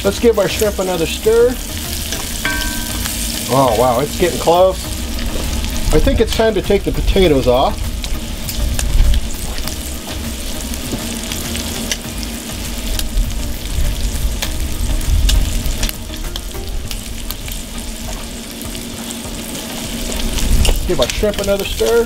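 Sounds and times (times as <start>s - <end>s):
shrimp sizzling in oil: 0.0s - 22.0s.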